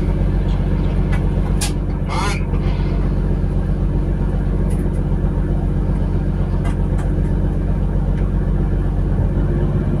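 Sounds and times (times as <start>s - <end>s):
boat diesel engine running: 0.0s - 10.0s.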